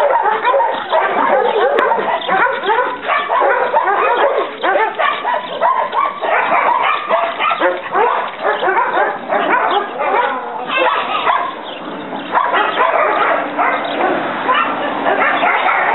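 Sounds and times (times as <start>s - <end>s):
dogs barking: 0.0s - 15.9s.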